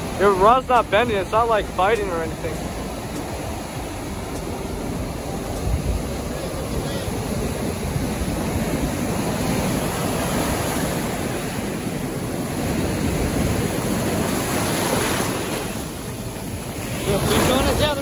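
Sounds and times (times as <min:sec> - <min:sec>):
ocean waves breaking: 0:00.0 - 0:18.0.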